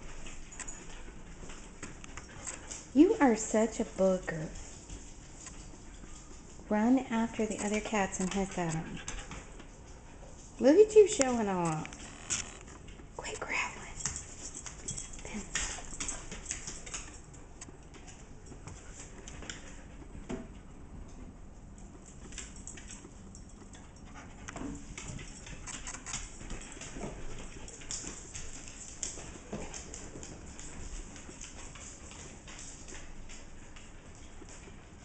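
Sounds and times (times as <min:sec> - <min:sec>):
paws scrabbling on wooden floor: 0:00.0 - 0:35.0.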